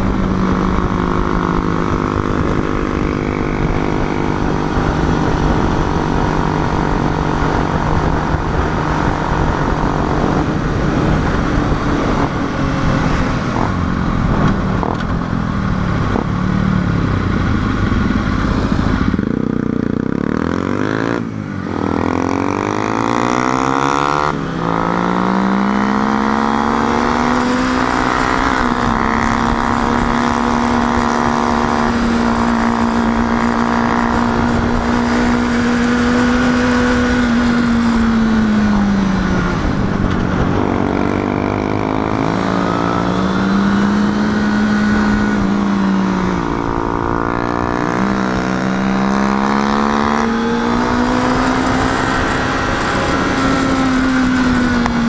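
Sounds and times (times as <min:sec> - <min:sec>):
wind rushing: 0:00.0 - 0:16.4, 0:24.6 - 0:55.0
motorcycle engine revving: 0:00.0 - 0:55.0.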